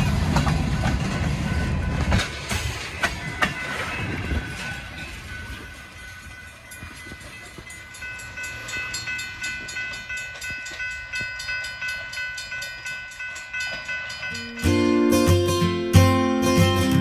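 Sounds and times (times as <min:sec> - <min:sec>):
train clacking rhythmically: 0:00.0 - 0:17.0
high ringing tones: 0:00.8 - 0:15.8.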